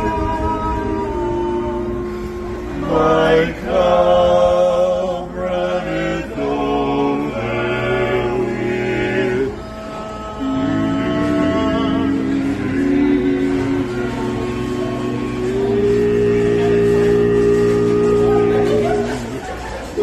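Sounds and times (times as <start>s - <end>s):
barbershop quartet singing: 0.0s - 20.0s.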